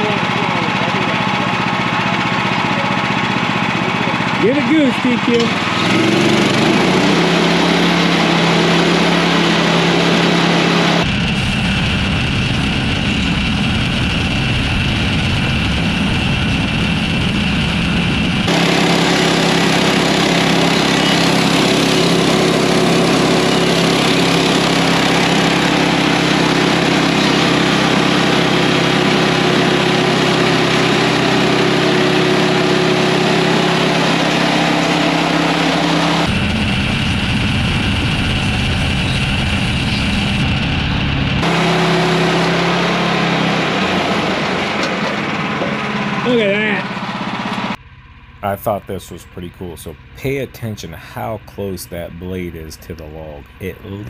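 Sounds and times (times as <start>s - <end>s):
sawmill engine at high revs: 0.0s - 54.0s.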